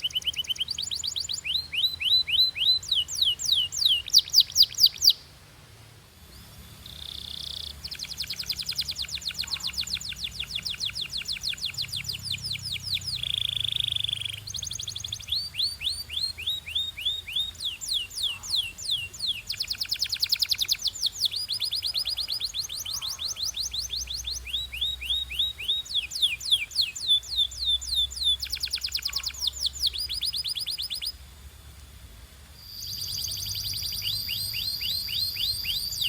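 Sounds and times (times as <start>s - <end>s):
canary singing trills: 0.0s - 5.3s, 6.3s - 31.2s, 32.6s - 36.0s.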